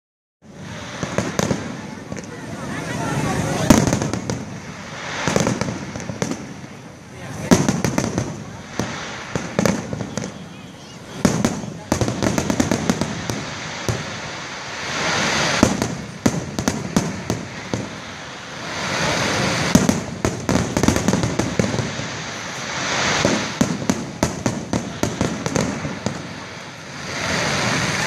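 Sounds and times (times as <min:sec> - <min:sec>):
fireworks bangs and crackles: 0:00.4 - 0:28.0
hissing noise: 0:00.4 - 0:28.0.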